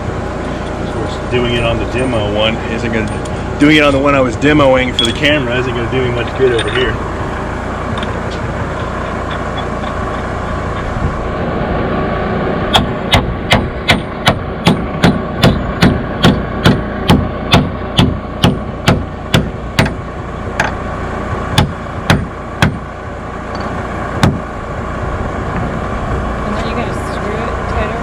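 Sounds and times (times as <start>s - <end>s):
steady engine-like hum: 0.0s - 28.0s.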